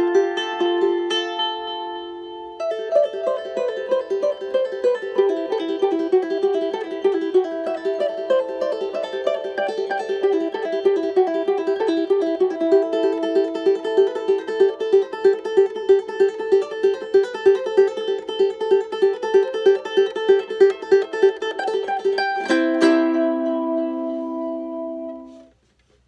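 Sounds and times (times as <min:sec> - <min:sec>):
ukulele chord ringing: 0:00.0 - 0:25.5
ukulele fingerpicked melody: 0:00.0 - 0:25.6.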